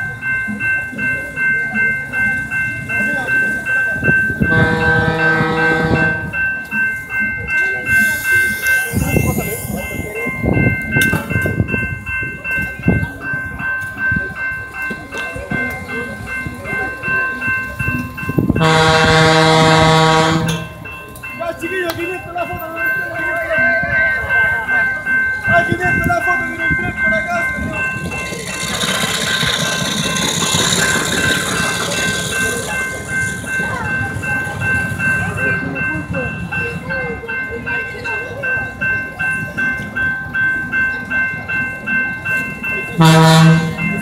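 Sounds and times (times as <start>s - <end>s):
high-pitched tones: 0.0s - 44.0s
level crossing bell ringing: 0.0s - 44.0s
locomotive engine rumbling: 0.0s - 44.0s
street noise: 0.0s - 44.0s
voices: 0.0s - 44.0s.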